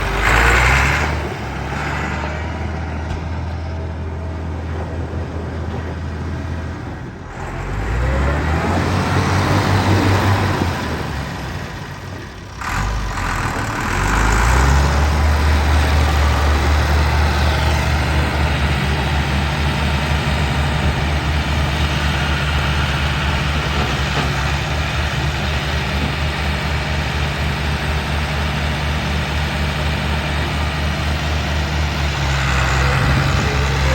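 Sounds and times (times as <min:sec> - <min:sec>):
tractor diesel engine revving: 0:00.0 - 0:33.9.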